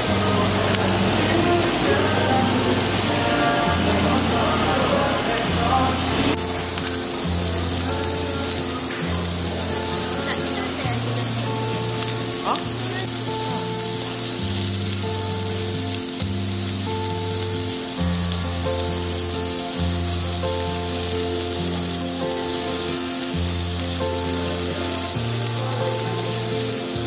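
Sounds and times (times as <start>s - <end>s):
background music with bass chords: 0.0s - 27.0s
meat sizzling on grill: 0.0s - 27.0s.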